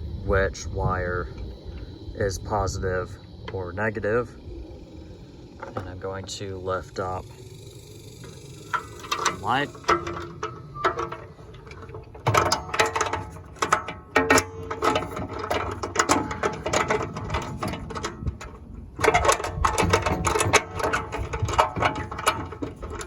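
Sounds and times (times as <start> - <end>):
metal parts clicking and rattling: 1.1 - 23.0.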